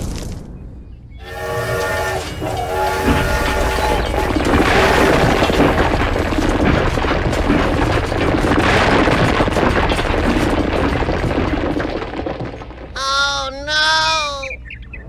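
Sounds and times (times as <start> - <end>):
crackling and crumbling: 0.0 - 0.6, 1.2 - 13.7
low rumble: 0.0 - 13.0
ground caving in: 1.2 - 14.4.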